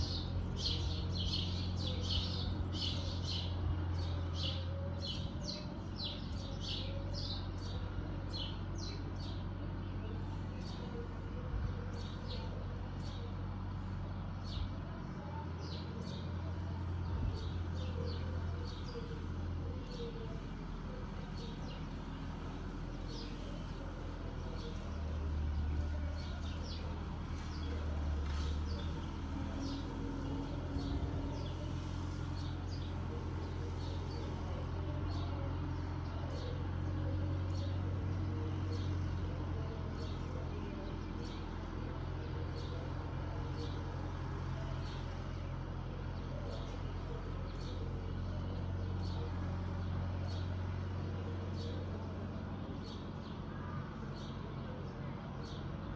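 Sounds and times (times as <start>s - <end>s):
birds chirping: 0.0s - 55.9s
distant tractor drone: 0.0s - 55.9s.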